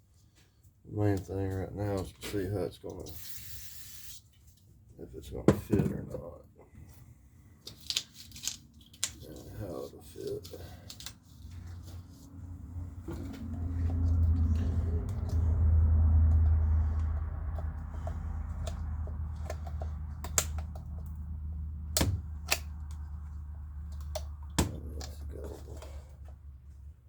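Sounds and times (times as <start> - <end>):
low steady hum: 4.4 - 27.0.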